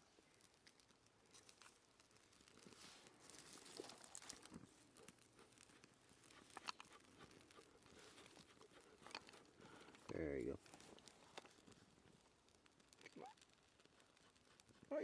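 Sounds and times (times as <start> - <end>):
small fire crackling and rustling: 0.0 - 15.0.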